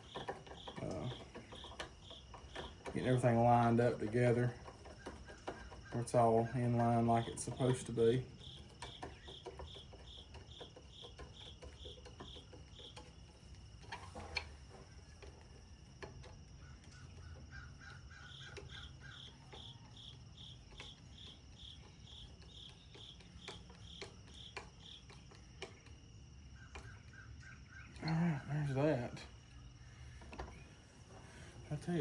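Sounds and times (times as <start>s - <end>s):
light clicks and knocks: 0.0s - 27.2s, 30.1s - 32.0s.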